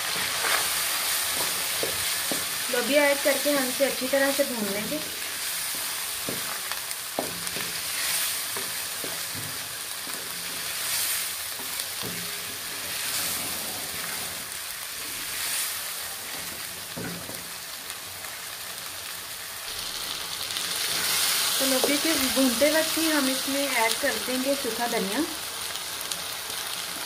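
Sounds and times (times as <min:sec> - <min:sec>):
beans sizzling in oil: 0:00.0 - 0:27.0.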